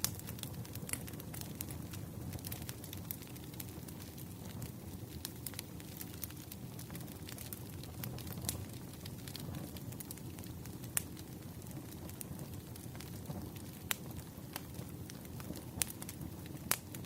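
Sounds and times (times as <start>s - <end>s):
rush of flames: 0.0s - 17.0s
wood crackling and popping: 0.0s - 17.0s.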